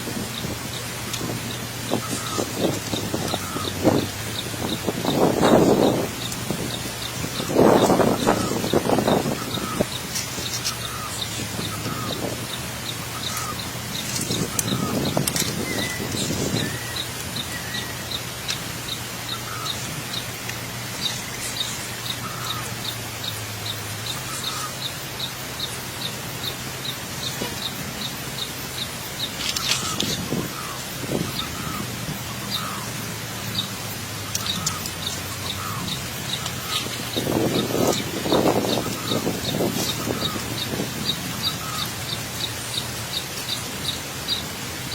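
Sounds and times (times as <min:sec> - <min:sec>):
animal calls: 0:00.0 - 0:44.9.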